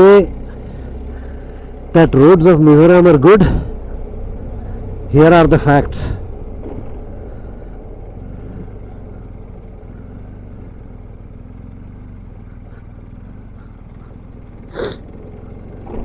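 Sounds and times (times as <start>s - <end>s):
motorcycle engine running: 0.0s - 16.0s
road noise: 0.0s - 16.0s.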